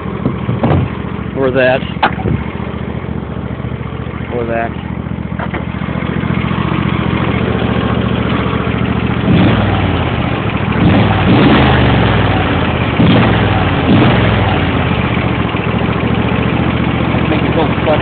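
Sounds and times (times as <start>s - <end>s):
lawn tractor engine sputtering: 0.0s - 18.0s.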